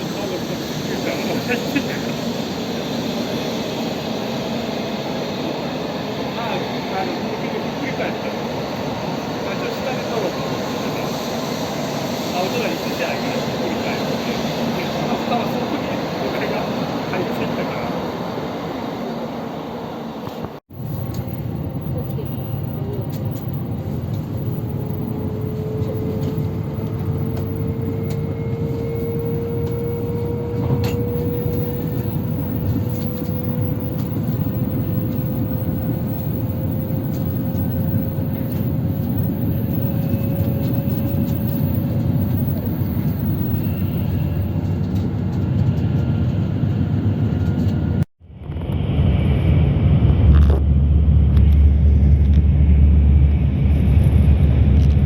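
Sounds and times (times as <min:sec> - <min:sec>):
bullet train whine: 0:00.0 - 0:55.0
deep train rumble: 0:00.0 - 0:55.0.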